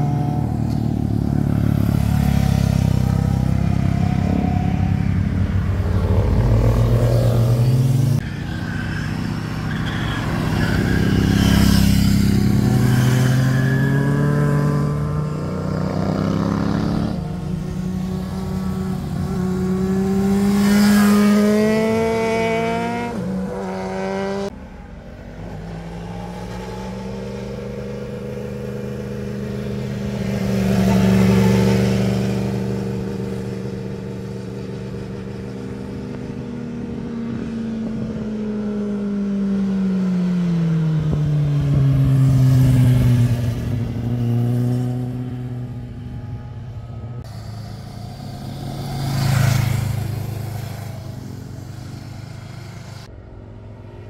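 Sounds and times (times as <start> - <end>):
distant motorcycle engine: 0.0 - 54.0
motorcycle engines accelerating past: 0.0 - 54.0.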